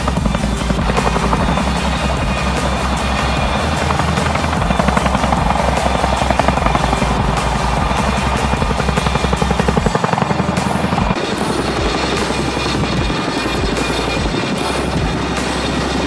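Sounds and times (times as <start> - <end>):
helicopter rotors beating: 0.0 - 16.0.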